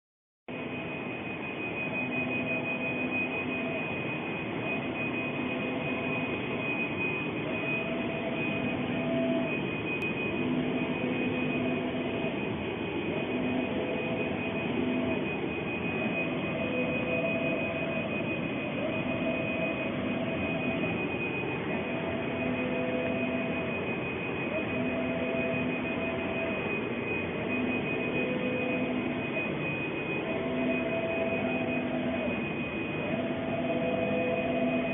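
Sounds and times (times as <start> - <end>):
high whine: 0.5 - 34.9
print carriage motor hum: 0.5 - 34.9
printer machine whir: 0.5 - 34.9.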